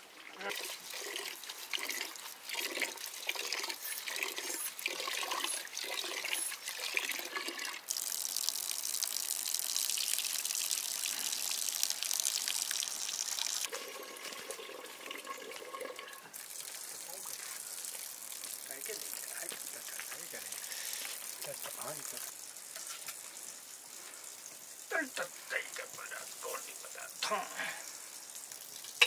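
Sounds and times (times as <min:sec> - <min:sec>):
water running and splashing: 0:00.0 - 0:29.0.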